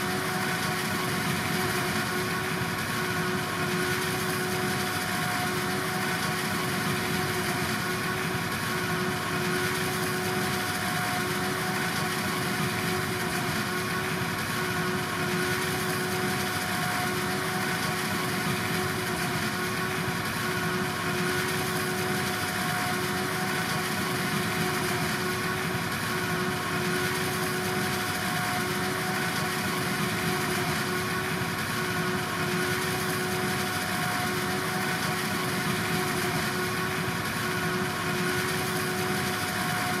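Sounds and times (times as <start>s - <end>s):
farm machinery diesel engine whine: 0.0s - 40.0s.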